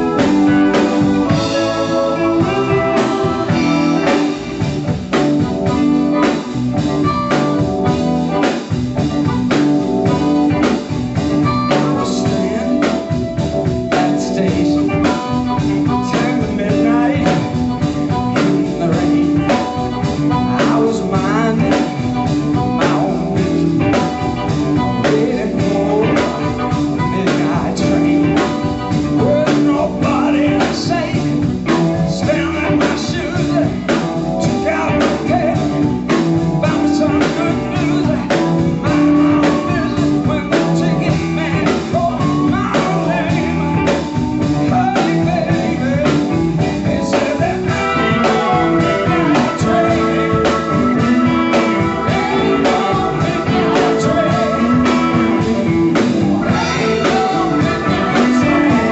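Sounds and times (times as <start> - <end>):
drum kit beat: 0.0 - 58.9
electric guitar: 0.0 - 58.9
wavering lead line: 0.0 - 58.9.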